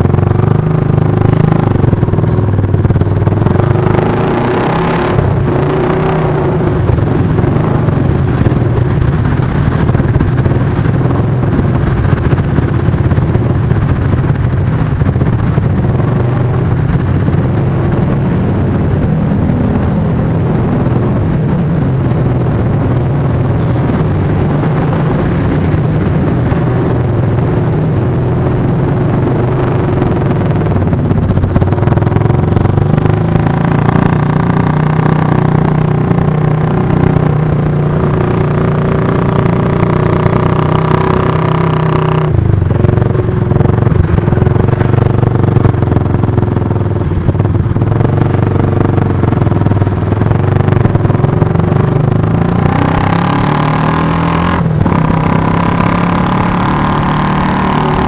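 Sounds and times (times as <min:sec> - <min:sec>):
car engines in traffic: 0:00.0 - 0:58.0
motorcycle engines in traffic: 0:00.0 - 0:58.0.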